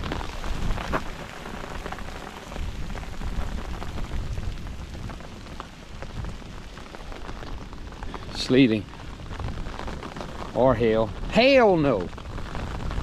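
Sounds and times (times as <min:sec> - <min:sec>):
fine precipitation pattering: 0:00.0 - 0:13.0.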